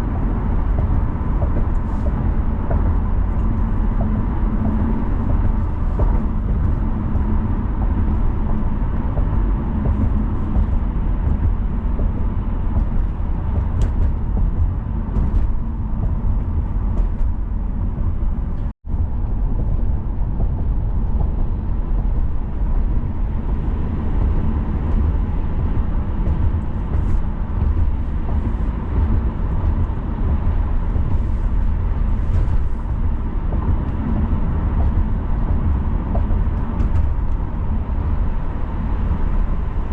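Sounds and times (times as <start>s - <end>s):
car engine driving: 0.0s - 39.9s
tyre rumble on road: 0.0s - 39.9s.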